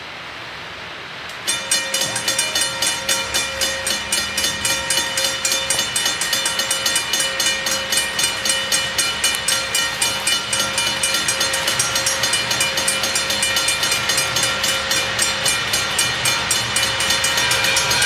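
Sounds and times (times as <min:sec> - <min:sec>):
crossing bell ringing rapidly: 0:01.4 - 0:18.0.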